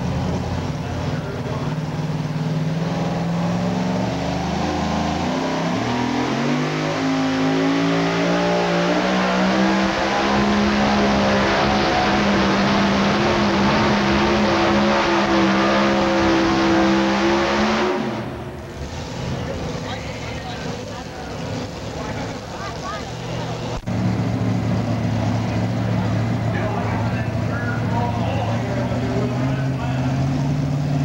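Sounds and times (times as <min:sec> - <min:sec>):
supercharged truck engine under load: 0:00.0 - 0:31.0.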